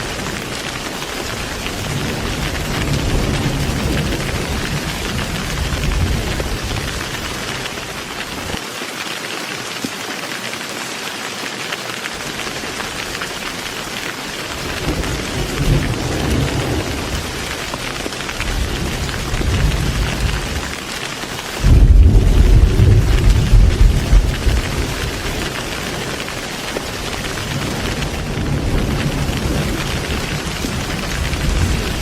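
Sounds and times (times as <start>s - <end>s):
thunder rumbling: 0.0s - 8.6s, 12.2s - 21.0s, 21.6s - 32.0s
heavy rain falling: 0.0s - 32.0s.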